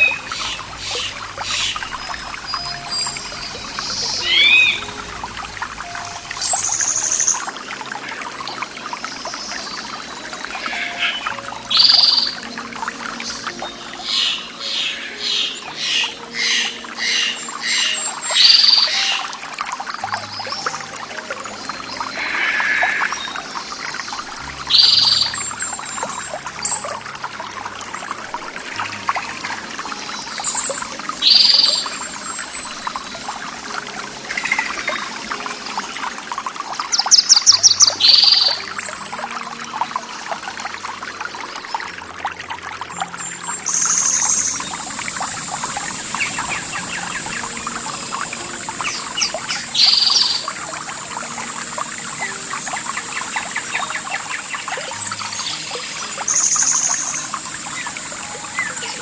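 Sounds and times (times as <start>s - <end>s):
birds calling: 0.0s - 59.0s
running water trickling: 0.0s - 59.0s
thin steady high tone: 0.0s - 59.0s.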